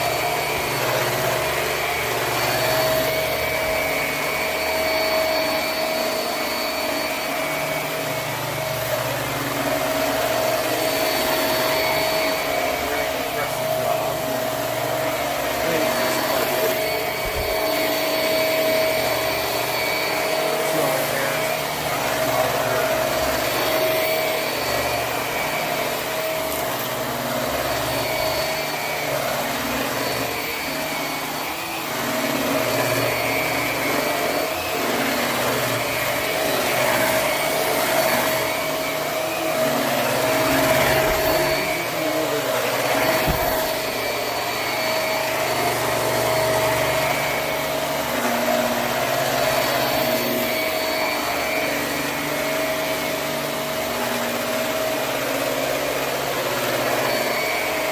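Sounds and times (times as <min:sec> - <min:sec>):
vacuum cleaner running on carpet: 0:00.0 - 0:57.9.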